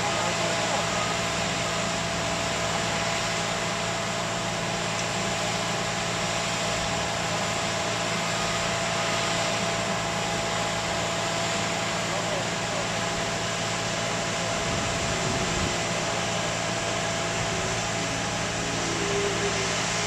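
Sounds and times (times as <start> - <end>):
wheel loader diesel engine running: 0.0 - 20.0.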